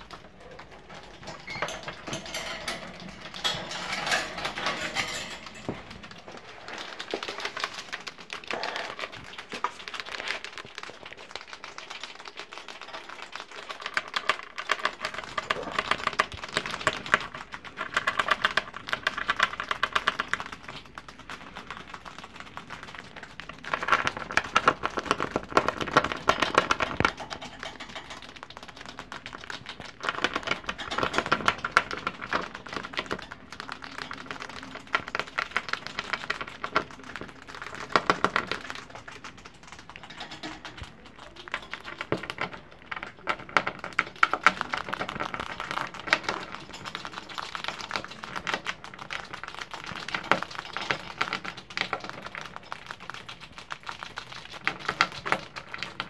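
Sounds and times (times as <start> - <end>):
rat gnawing crunchy pasta: 0.0 - 56.0.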